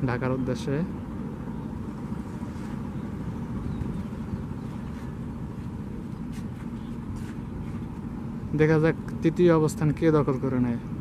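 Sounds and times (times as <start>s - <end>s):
boat engines rumbling: 0.0s - 11.0s.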